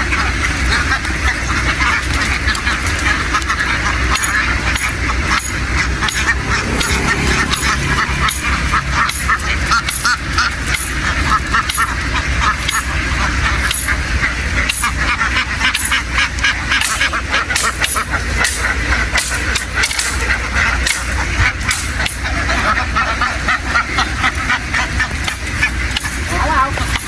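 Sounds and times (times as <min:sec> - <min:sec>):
ducks quacking: 0:00.0 - 0:27.0
steady low rumble: 0:00.0 - 0:27.0.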